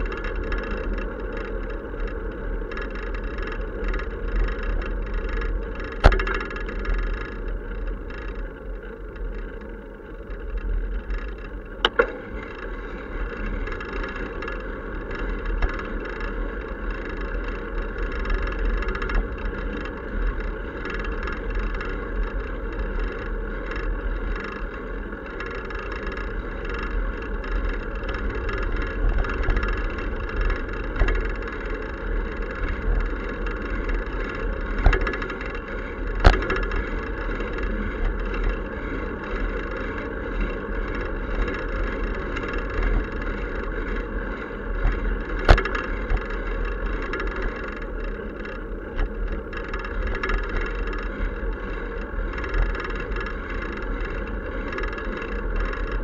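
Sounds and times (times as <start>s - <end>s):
bicycle road rumble: 0.0s - 56.0s
wind: 0.0s - 56.0s.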